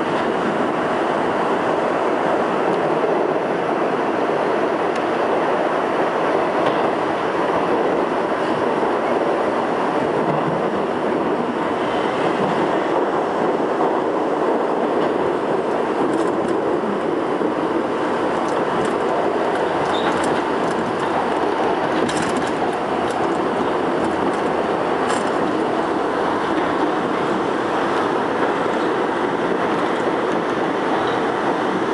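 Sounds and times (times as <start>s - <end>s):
subway train wheels rumbling: 0.0s - 31.9s.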